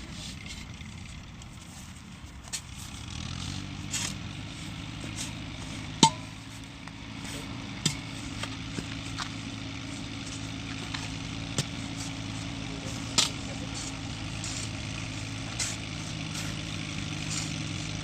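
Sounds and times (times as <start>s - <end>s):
motor running: 2.8s - 18.0s.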